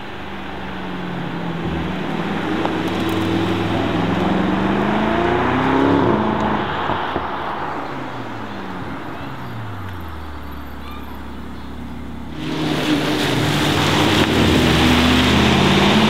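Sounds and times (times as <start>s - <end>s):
car engine accelerating: 0.0s - 16.0s
car engine at low revs: 0.0s - 16.0s.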